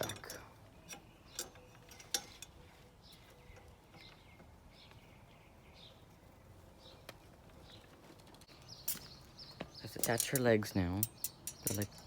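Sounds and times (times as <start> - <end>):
faint bird chirps: 0.3 - 12.0.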